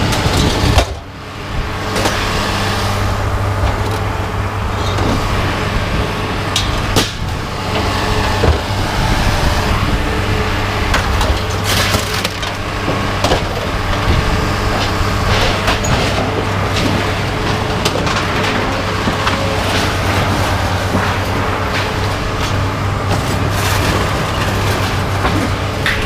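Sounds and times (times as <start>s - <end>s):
engine hum: 0.0s - 26.0s
scrap clattering and crunching: 0.0s - 26.0s.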